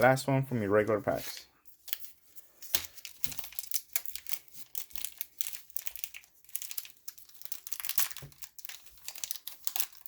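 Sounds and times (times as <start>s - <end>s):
card pack wrapper crinkling: 1.7s - 10.0s.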